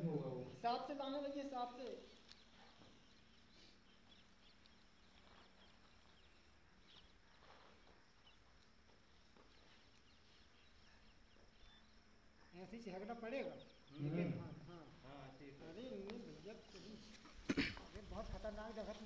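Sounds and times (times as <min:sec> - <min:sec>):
faint chirps: 0:00.0 - 0:19.0.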